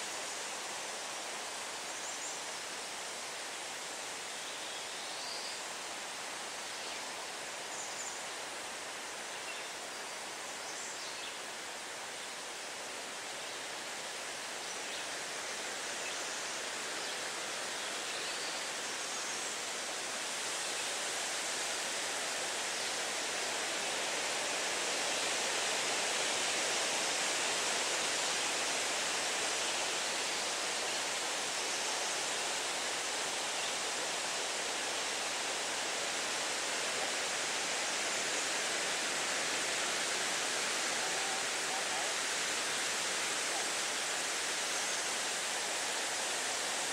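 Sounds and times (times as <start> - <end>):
wind rushing through trees: 0.0 - 46.9.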